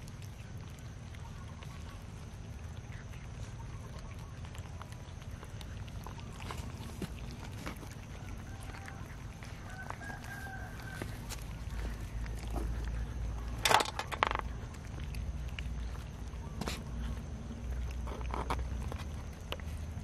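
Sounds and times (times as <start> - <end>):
cats chewing and clicking on tray: 0.0 - 20.0.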